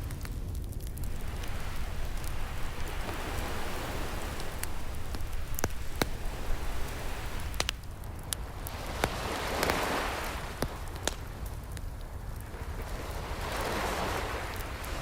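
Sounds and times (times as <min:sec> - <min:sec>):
low rumble of surf: 0:00.0 - 0:15.0
wood fire crackling: 0:00.0 - 0:15.0
ocean wave washing in: 0:00.9 - 0:15.0.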